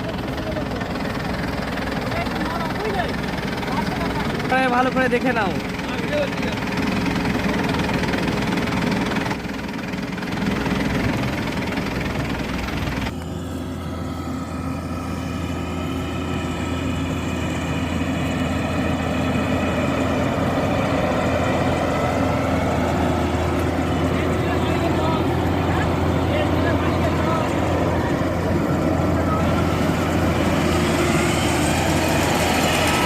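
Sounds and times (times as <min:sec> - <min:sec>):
combine harvester engine running: 0:00.0 - 0:33.0.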